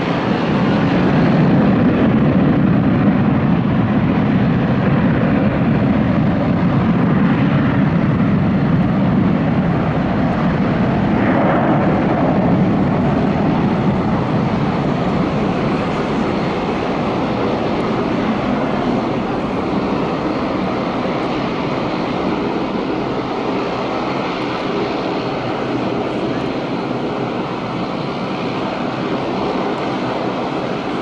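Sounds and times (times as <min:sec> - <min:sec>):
airliner jet engines at takeoff: 0:00.0 - 0:31.0.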